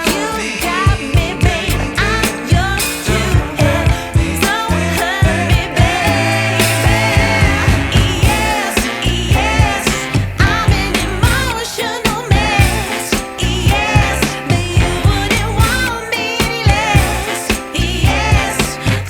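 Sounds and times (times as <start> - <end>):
song with sung vocal and beat: 0.0 - 19.0.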